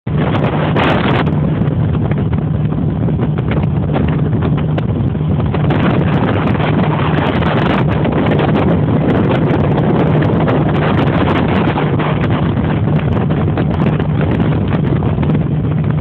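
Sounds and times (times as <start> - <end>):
wind buffeting microphone: 0.0 - 16.0
speedboat engine droning: 0.1 - 16.0.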